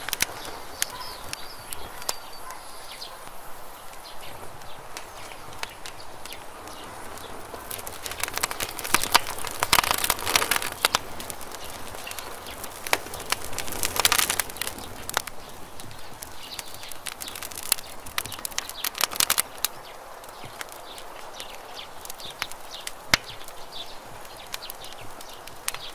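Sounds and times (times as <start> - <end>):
campfire crackling and popping: 0.0 - 25.9
fire hiss: 0.0 - 25.9.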